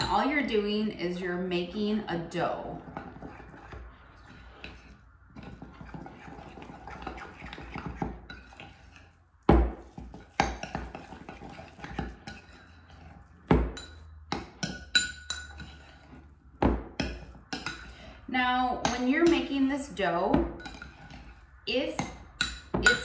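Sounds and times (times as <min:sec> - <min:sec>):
spoon scraping dough in a bowl: 0:00.0 - 0:23.0.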